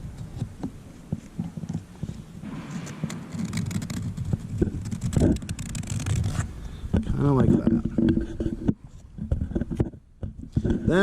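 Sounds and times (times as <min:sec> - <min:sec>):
stick clicking and scraping resin: 0:00.1 - 0:10.8.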